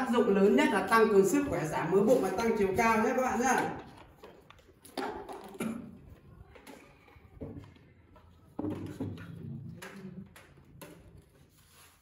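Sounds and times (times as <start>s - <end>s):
pens and paper clicks and rustles: 0.0s - 12.0s.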